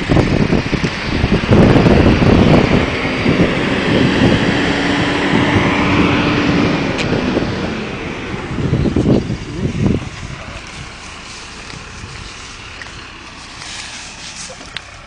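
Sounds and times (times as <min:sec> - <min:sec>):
engine hum: 0:00.0 - 0:15.0
wind buffeting microphone: 0:00.0 - 0:15.0.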